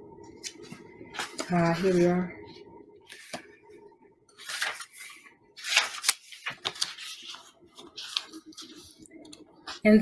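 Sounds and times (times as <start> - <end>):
paper rustling: 0.4 - 3.5, 4.3 - 10.0.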